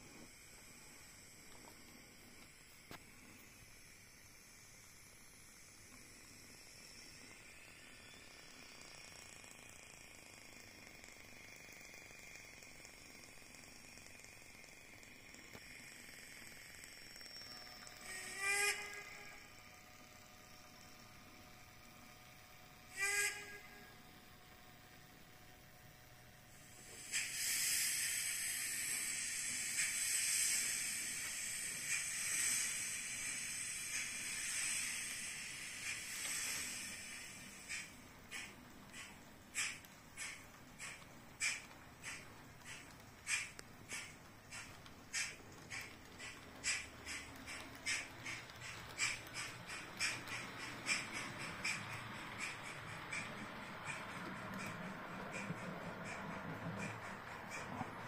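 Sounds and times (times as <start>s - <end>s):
model train whirring and ticking: 0.0s - 58.0s.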